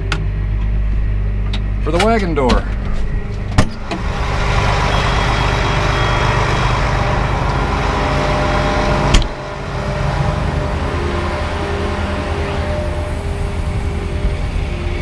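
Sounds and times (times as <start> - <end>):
tractor engine running: 0.0 - 15.0
hydraulic rushing noise: 2.6 - 15.0.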